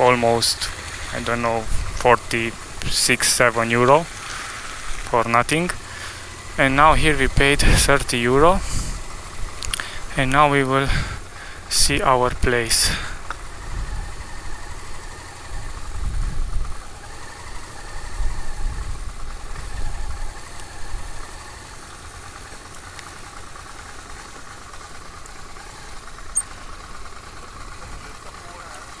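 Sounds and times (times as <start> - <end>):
motorcycle engine rumble: 0.0 - 29.0.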